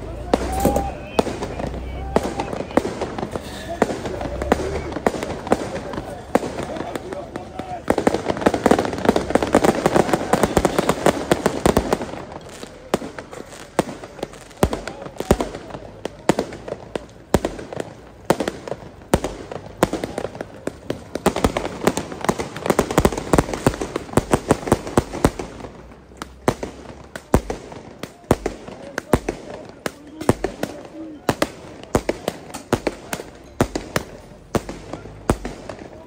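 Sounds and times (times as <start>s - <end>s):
fireworks cracking and banging: 0.0s - 36.0s.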